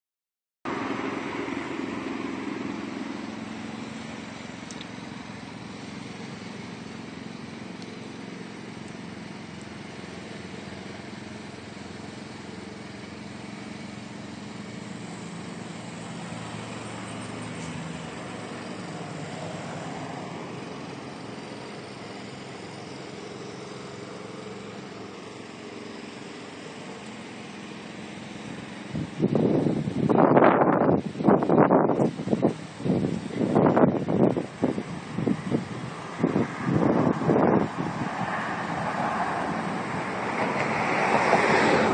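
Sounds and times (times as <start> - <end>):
distant road traffic: 0.7 - 41.9
faint low engine hum: 0.7 - 41.9.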